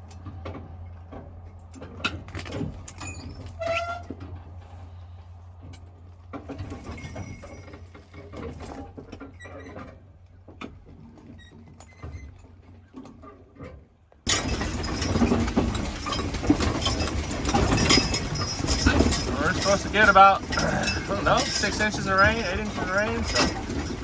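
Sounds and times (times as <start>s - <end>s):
wagon and harness creaking: 0.0s - 24.0s.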